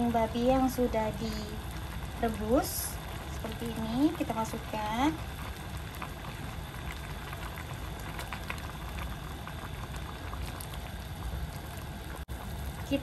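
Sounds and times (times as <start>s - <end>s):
soup boiling and popping: 0.0s - 13.0s.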